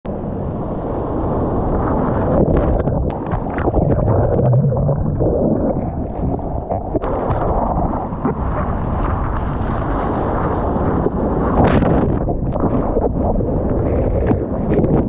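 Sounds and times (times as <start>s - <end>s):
rushing surf water: 0.1s - 15.0s
wind buffeting microphone: 0.1s - 15.0s.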